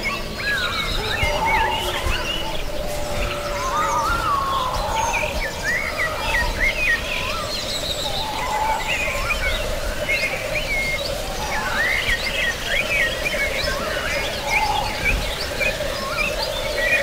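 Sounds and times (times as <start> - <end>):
birds chirping and singing: 0.0 - 17.0
steady background hiss: 0.0 - 17.0.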